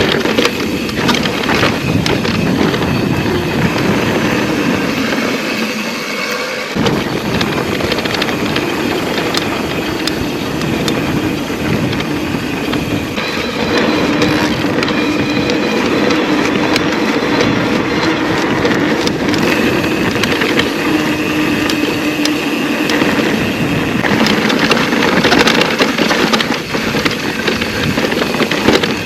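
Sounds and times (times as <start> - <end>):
bike tyres rumbling on stones: 0.0 - 5.8, 6.8 - 29.0
bike rattling: 0.0 - 29.0.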